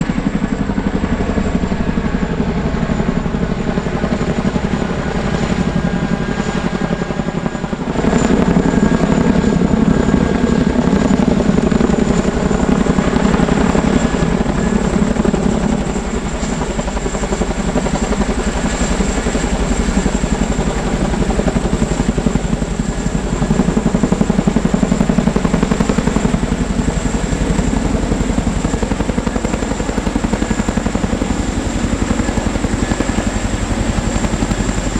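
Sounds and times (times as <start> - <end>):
helicopter rotor beat: 0.0 - 34.9
turbine whine: 0.0 - 34.9.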